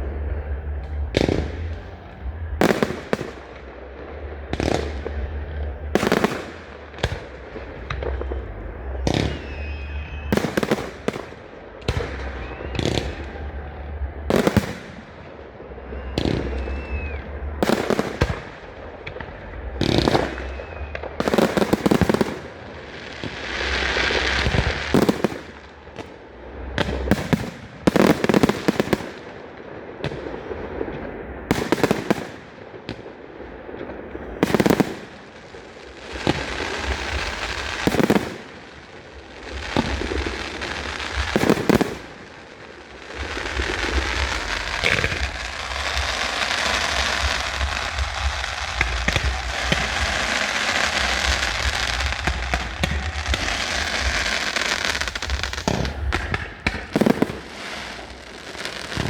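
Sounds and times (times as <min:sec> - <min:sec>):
crackling firework reports: 0:00.0 - 0:59.0
firework bangs: 0:00.0 - 0:59.0
firework whistles: 0:04.6 - 0:32.7, 0:33.8 - 0:59.0.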